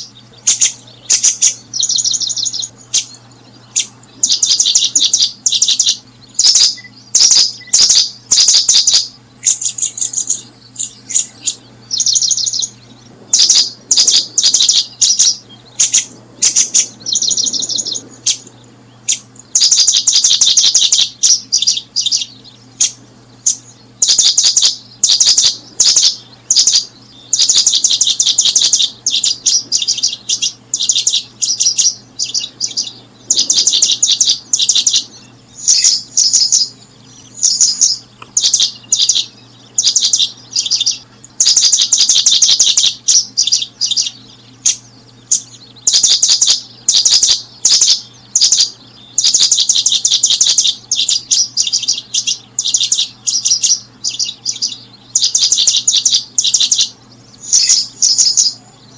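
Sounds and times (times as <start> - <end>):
faint low hum: 0.0 - 58.9
small birds chirping trills: 0.0 - 58.9.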